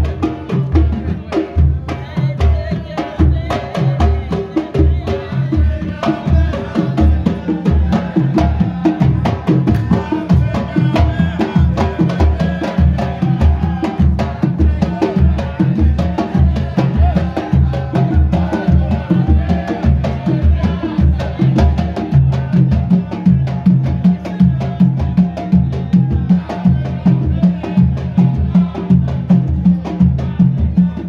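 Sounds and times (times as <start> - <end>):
frame drums beating: 0.0 - 31.0
men singing in chorus: 0.0 - 31.0.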